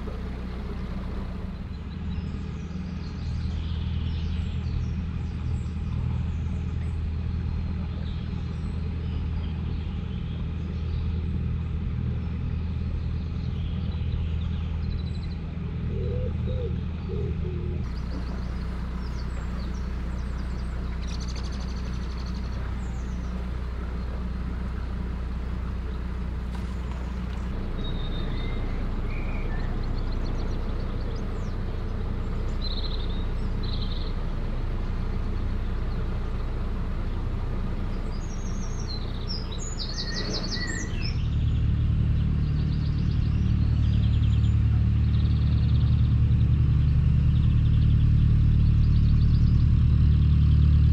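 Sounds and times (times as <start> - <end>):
birds chirping: 0.0 - 11.2, 12.2 - 46.2
boat engine humming: 0.0 - 50.9.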